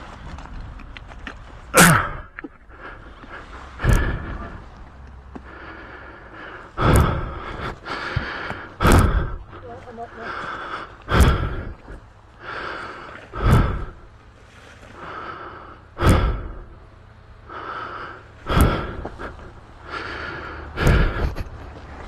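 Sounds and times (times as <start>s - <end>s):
person breathing hard: 1.8s - 14.2s, 14.8s - 21.6s.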